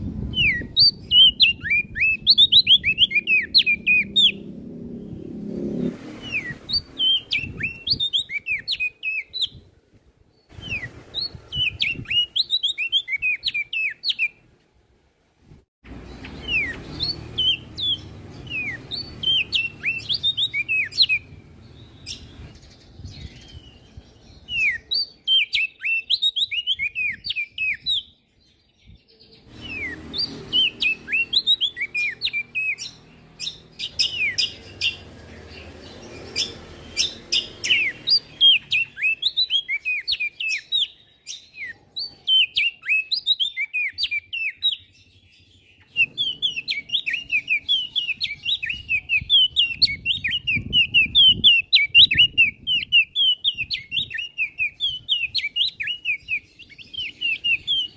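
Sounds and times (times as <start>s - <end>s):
songbird singing: 0.0s - 14.6s, 15.8s - 57.9s.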